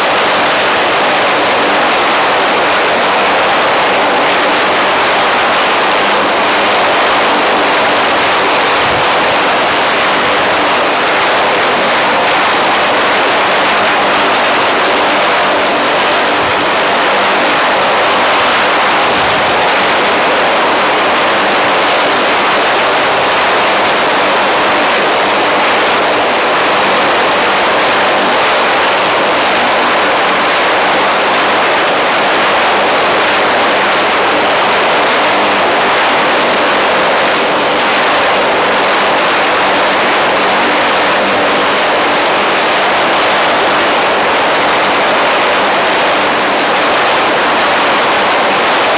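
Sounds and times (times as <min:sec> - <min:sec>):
helicopter turbine whine: 0:00.0 - 0:48.9
rotor noise: 0:00.0 - 0:48.9.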